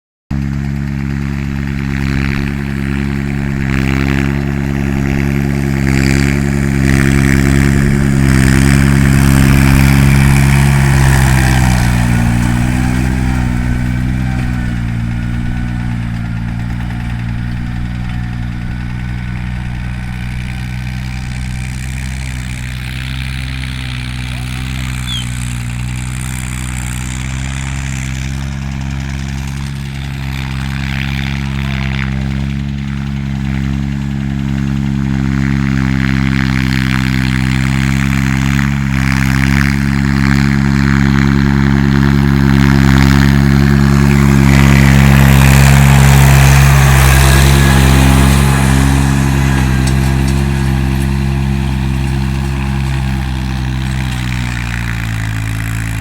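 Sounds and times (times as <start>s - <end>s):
tractor diesel engine running: 0.3s - 56.0s.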